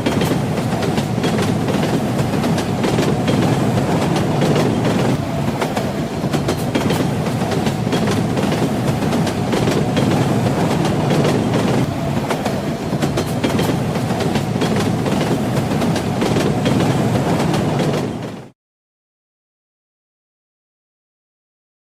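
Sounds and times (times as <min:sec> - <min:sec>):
train wheels clattering on rails: 0:00.0 - 0:18.6.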